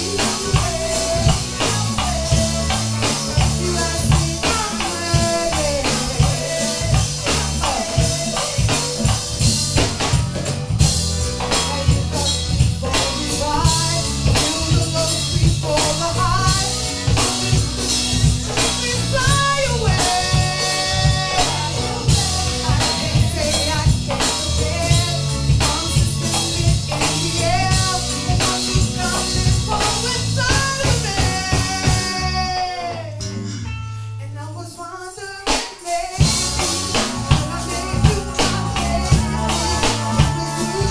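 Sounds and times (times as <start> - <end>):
band music with drum beat: 0.0 - 34.2, 35.4 - 40.9.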